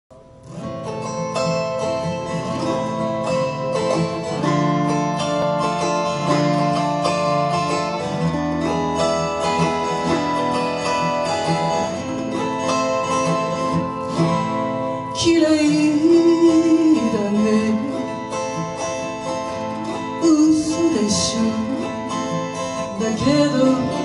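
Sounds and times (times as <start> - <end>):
acoustic guitar strumming: 0.1 - 24.0
autoharp: 0.4 - 24.0.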